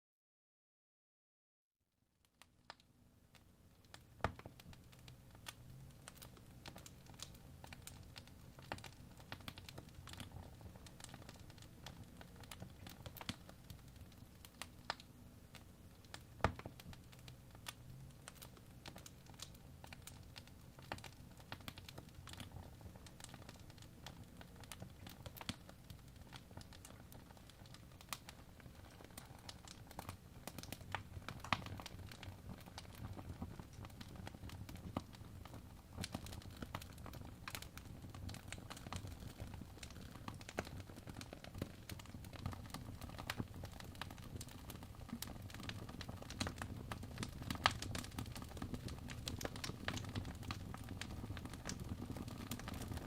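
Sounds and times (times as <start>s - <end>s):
fire crackling and popping: 2.2s - 53.0s.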